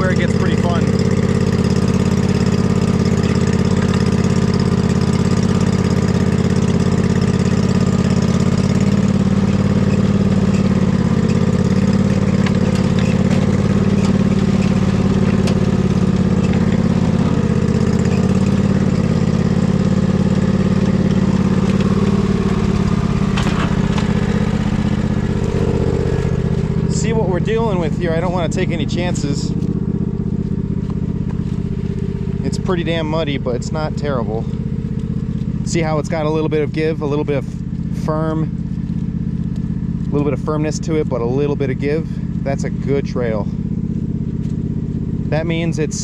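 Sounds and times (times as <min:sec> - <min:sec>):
riding mower engine running: 0:00.0 - 0:46.0.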